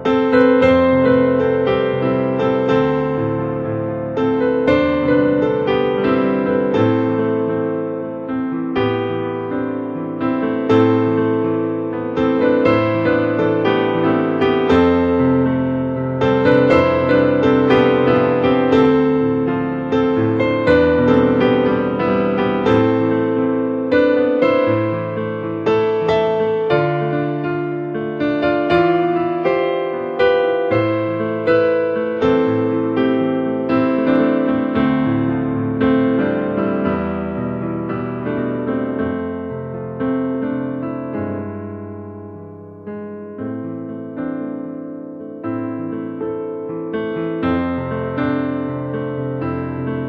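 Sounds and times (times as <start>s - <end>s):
gentle piano melody: 0.0s - 50.0s.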